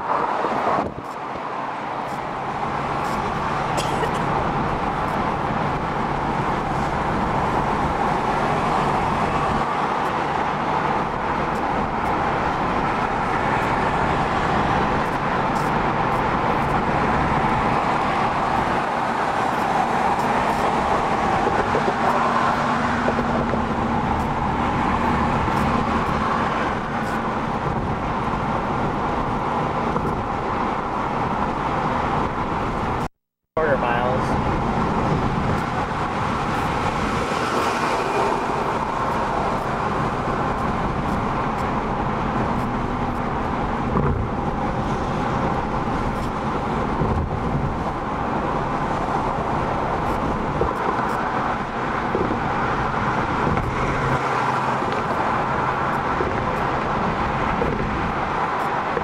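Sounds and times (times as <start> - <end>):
car road noise from inside: 0.0 - 59.0.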